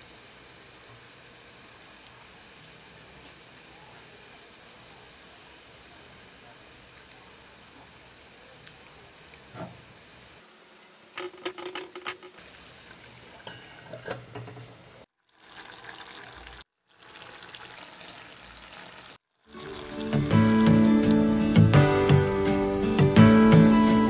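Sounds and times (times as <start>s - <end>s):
stew simmering with sizzling hiss: 0.0s - 11.4s, 12.0s - 24.0s.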